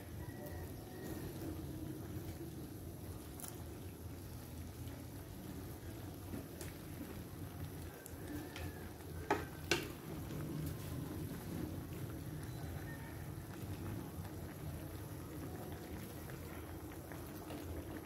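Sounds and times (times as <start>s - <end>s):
pan cooking on stove: 0.0s - 18.0s.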